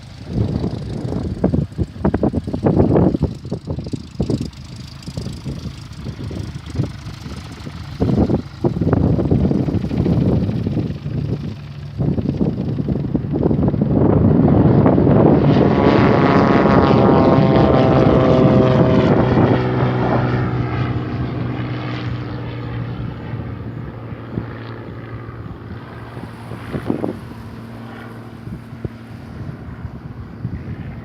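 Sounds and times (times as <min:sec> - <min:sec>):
propeller plane engine passing: 0:00.0 - 0:31.0.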